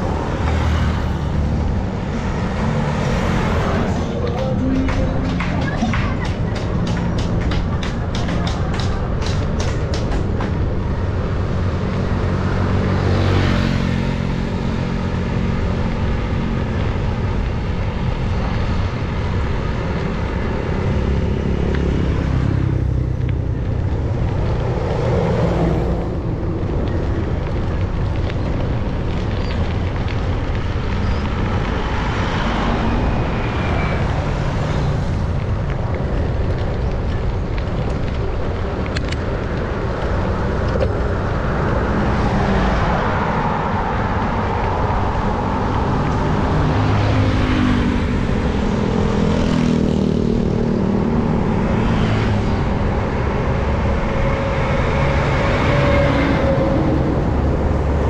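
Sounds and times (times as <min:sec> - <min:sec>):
bike road noise: 0:00.0 - 0:58.0
motor vehicles passing: 0:00.0 - 0:58.0
rushing wind: 0:00.0 - 0:58.0.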